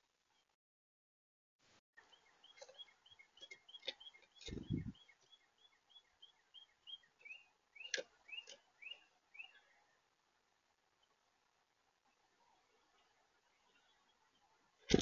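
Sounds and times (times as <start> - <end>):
songbird chirping: 2.0 - 15.0.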